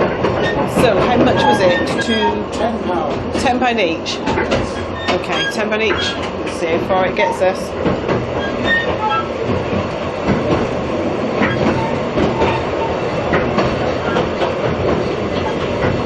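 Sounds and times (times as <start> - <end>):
train carriage rumbling on track: 0.0 - 16.0.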